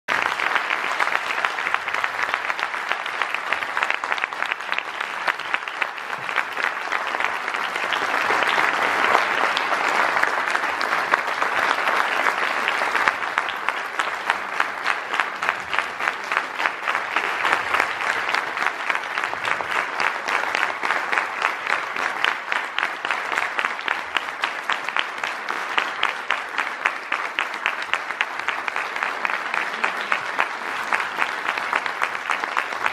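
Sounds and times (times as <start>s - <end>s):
audience applause: 0.1s - 32.9s.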